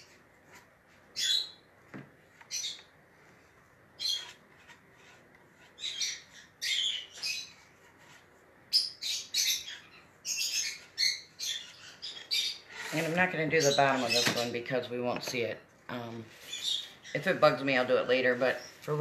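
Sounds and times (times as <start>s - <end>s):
caged birds chirping: 0.0s - 19.0s.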